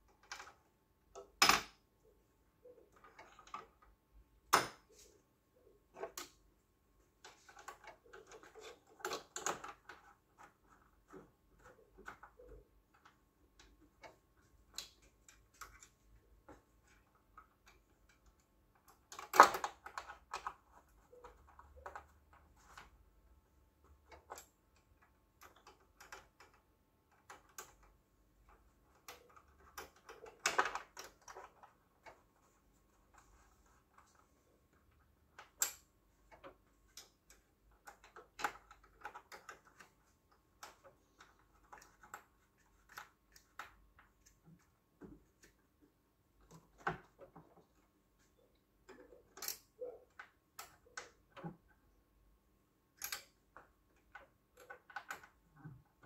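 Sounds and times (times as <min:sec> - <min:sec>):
small parts and tools clicking: 0:00.0 - 0:52.2, 0:52.9 - 0:56.0.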